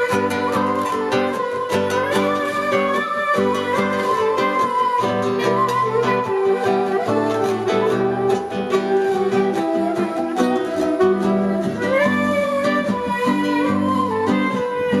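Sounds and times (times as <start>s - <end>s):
plucked string rhythm: 0.0s - 15.0s
sliding melody line: 0.0s - 15.0s.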